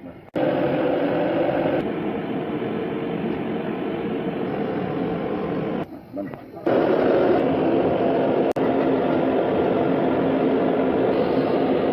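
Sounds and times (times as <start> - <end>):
machine whirring: 0.4 - 11.9.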